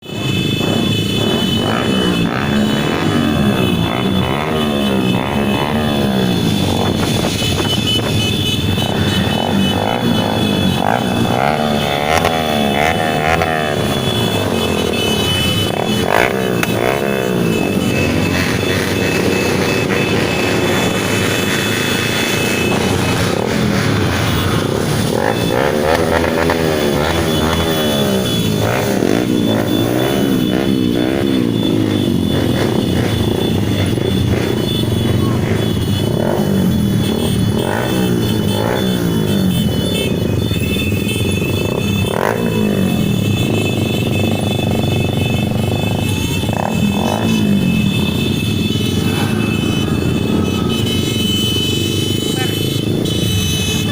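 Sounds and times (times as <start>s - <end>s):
engine revving: 0.0s - 7.3s, 8.8s - 14.9s, 15.6s - 39.4s, 41.5s - 51.1s
motorcycle engines droning: 0.0s - 53.9s.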